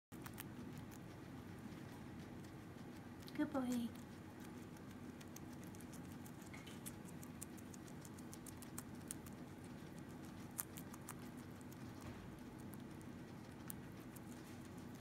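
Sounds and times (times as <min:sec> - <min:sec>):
guinea pig crunching lettuce: 0:00.1 - 0:15.0.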